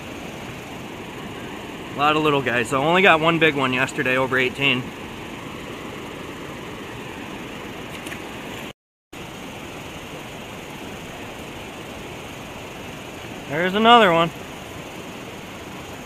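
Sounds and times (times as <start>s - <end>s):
river rushing over rapids: 0.0s - 16.0s.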